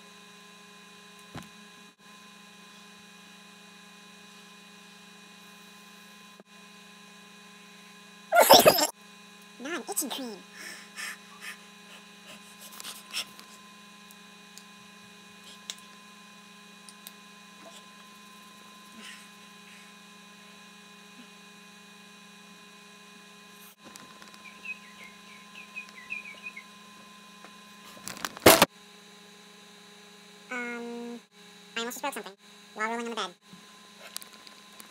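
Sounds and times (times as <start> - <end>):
electrical mains hum: 0.0 - 34.9.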